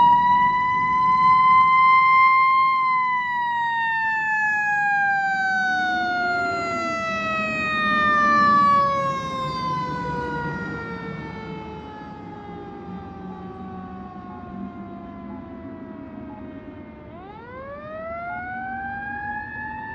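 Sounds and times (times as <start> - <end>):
siren winding down: 0.0 - 19.9.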